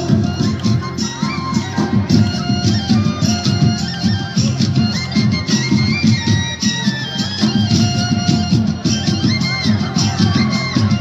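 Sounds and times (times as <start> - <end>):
held melody line: 0.0 - 11.0.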